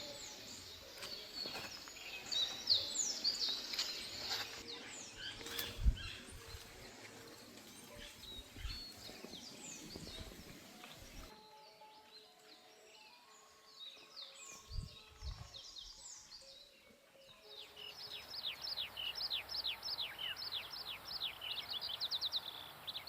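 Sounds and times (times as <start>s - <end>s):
birds chirping: 0.0s - 11.4s, 13.4s - 23.0s.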